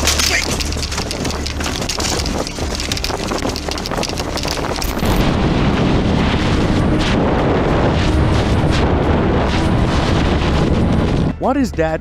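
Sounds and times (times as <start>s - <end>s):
vehicle engine running: 0.0s - 11.1s
wind rushing over microphone: 1.2s - 11.5s.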